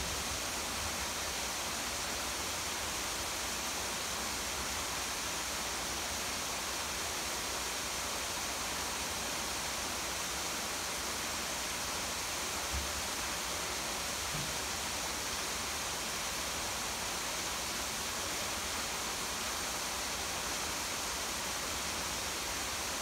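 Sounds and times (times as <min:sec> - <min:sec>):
rain falling: 0:00.0 - 0:23.0
small waterfall rushing: 0:00.0 - 0:23.0.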